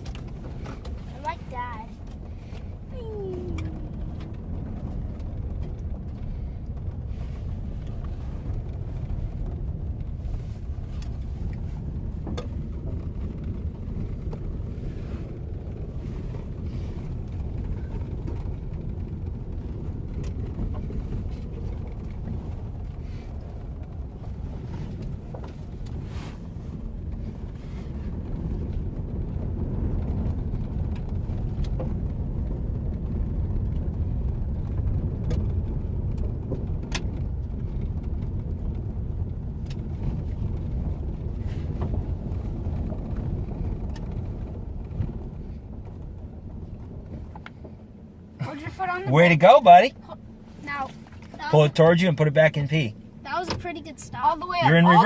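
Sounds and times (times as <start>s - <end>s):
truck engine rumble: 0.0s - 55.0s.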